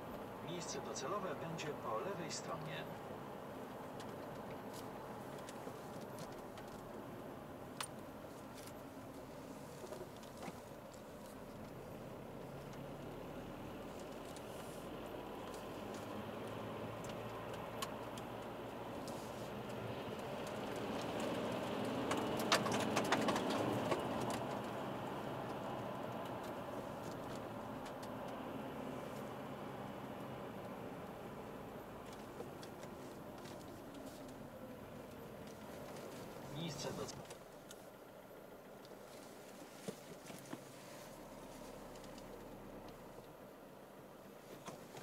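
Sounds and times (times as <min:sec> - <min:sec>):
car engine and tyre noise: 0:00.0 - 0:45.0.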